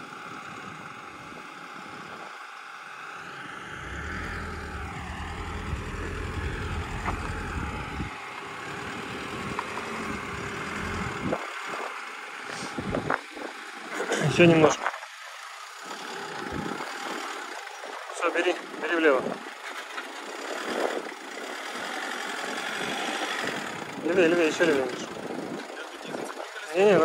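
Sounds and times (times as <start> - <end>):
diesel engine running at low speed: 0.0 - 27.0.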